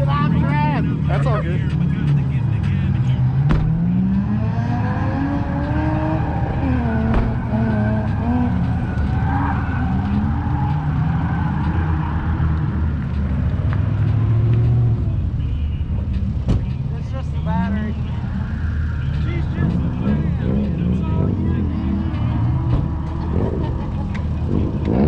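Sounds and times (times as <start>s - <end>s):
car engines revving: 0.0s - 25.0s
tires screeching: 0.0s - 25.0s.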